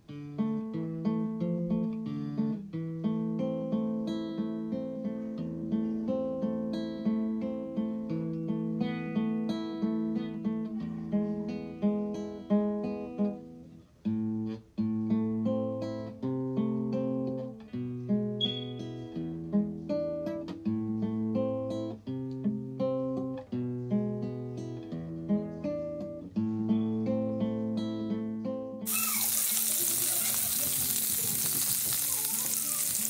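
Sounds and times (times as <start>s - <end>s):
acoustic guitar chords: 0.0s - 33.0s.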